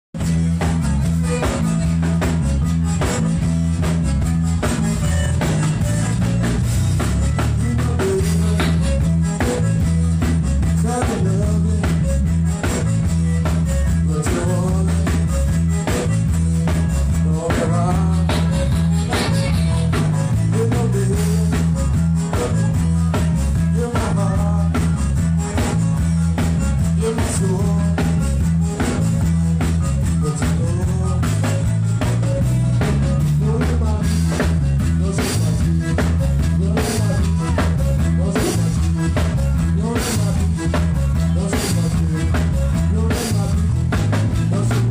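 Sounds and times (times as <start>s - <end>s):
electric bass: 0.0s - 44.9s
button accordion melody: 0.2s - 44.9s
drum kit beat: 0.2s - 44.9s.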